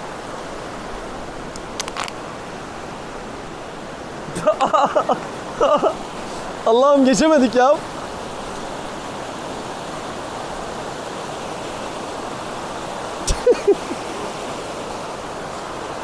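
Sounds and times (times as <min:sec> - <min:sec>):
stream splashing over stones: 0:00.0 - 0:16.0.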